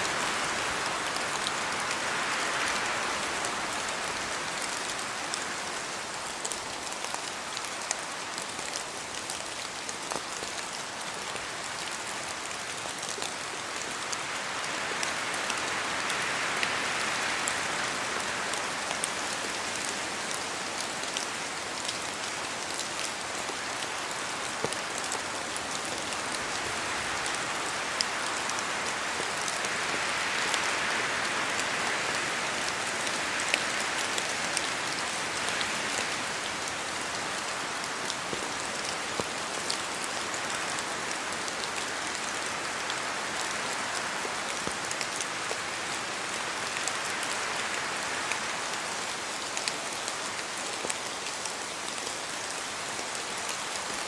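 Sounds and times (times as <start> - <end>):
rain hissing in forest: 0.0 - 54.0
wind: 0.0 - 54.0.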